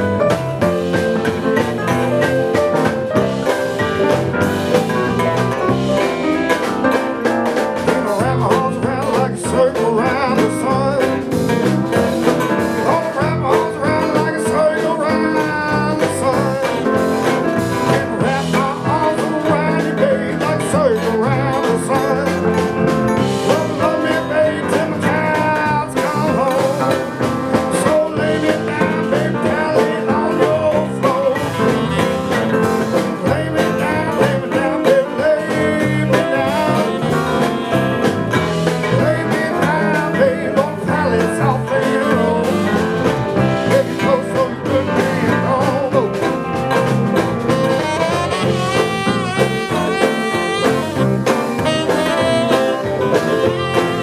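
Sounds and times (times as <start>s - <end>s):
country blues band playing live: 0.0s - 54.0s
guitar: 0.0s - 54.0s
person singing: 7.8s - 22.7s, 23.3s - 46.7s, 47.5s - 54.0s.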